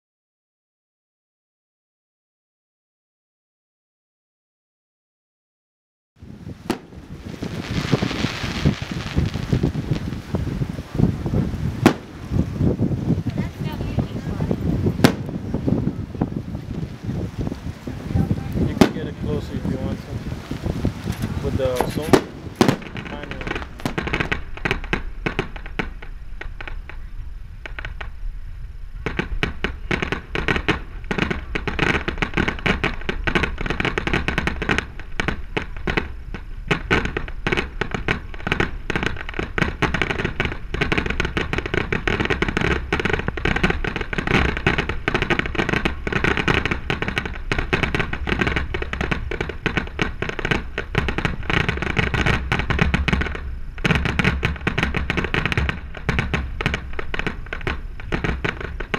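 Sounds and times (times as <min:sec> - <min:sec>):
fireworks bursts and crackles: 0:06.2 - 0:58.9.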